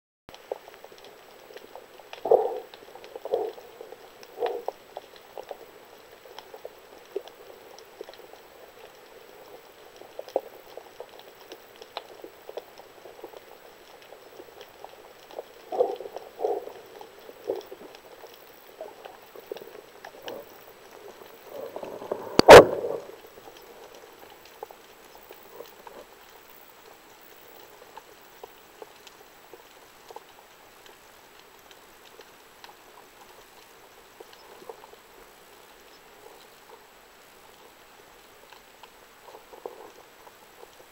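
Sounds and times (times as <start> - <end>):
underwater crackling and pops: 0.3 - 40.9.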